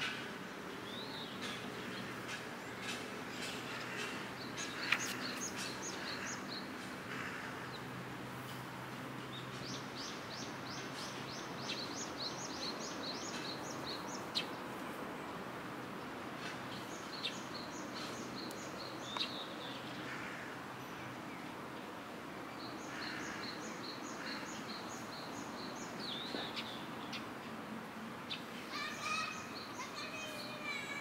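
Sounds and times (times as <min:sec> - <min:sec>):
songbird chirping: 0:00.0 - 0:08.6, 0:09.2 - 0:15.4, 0:16.0 - 0:20.2, 0:22.5 - 0:27.6, 0:28.2 - 0:31.0
outdoor background hum: 0:00.0 - 0:31.0.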